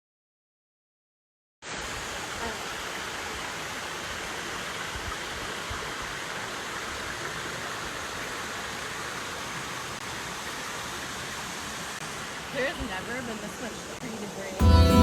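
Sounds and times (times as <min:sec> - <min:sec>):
running water rushing: 0:01.6 - 0:15.0.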